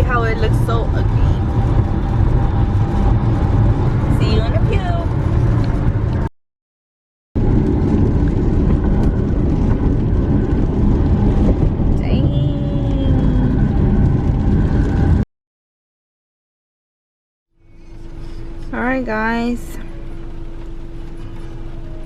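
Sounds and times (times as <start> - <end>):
car road and engine rumble: 0.0 - 6.3, 7.4 - 15.2, 17.5 - 22.0.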